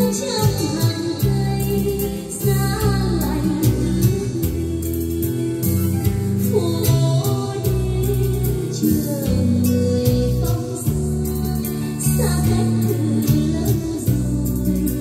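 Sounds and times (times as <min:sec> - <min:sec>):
instrumental backing music: 0:00.0 - 0:15.0
person singing: 0:00.0 - 0:15.0.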